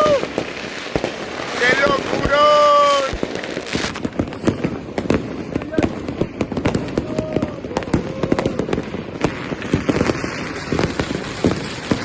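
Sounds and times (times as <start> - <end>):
fireworks bangs and pops: 0.0 - 12.0
fireworks crackling: 0.0 - 12.0.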